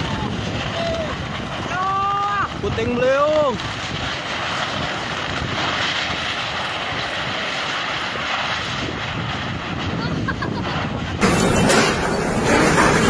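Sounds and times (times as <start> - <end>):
strong gusty wind: 0.0 - 13.0.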